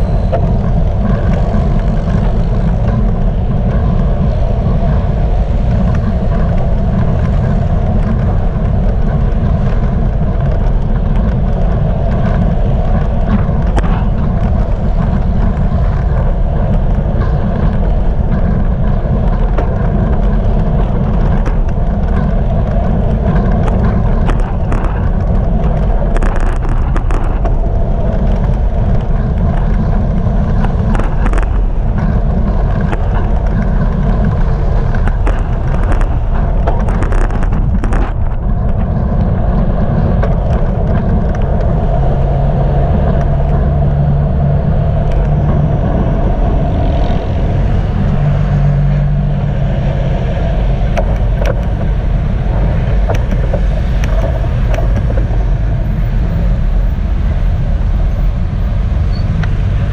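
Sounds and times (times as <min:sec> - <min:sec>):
road traffic noise: 0:00.0 - 0:59.9
wind buffeting microphone: 0:00.0 - 0:59.9.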